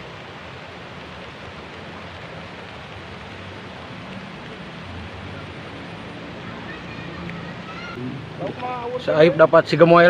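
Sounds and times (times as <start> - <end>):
light rain on a pond: 0.0 - 10.0.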